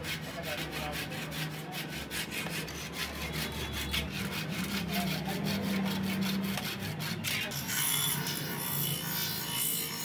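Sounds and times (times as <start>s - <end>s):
file rasping on knife blade: 0.0s - 10.0s.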